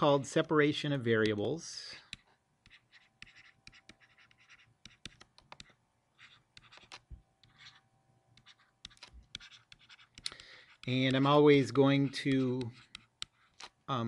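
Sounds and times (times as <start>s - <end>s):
stylus scratching on tablet screen: 0.0s - 14.0s.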